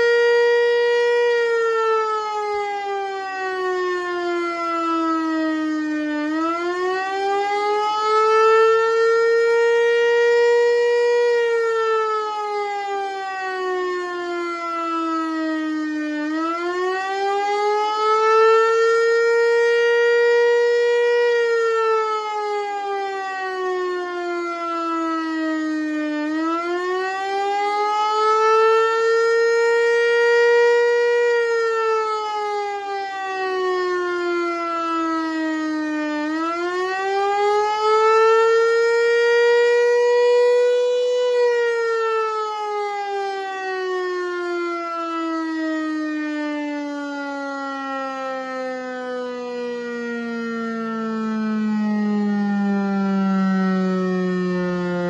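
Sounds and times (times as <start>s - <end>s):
wailing warning siren: 0.0s - 55.0s.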